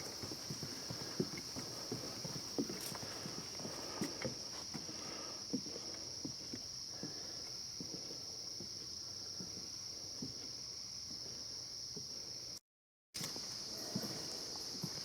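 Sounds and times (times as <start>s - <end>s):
footsteps on wooden boardwalk: 0.0s - 11.3s, 13.2s - 15.0s.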